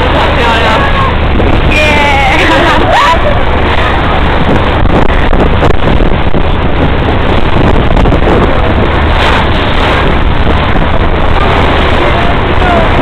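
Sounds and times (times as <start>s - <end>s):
ferry engine low drone: 0.0s - 13.0s
wind buffeting microphone: 0.0s - 13.0s.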